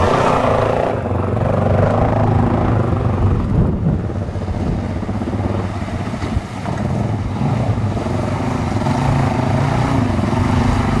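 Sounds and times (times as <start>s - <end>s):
engine running steadily: 0.0s - 11.0s
wind noise on microphone: 0.0s - 11.0s.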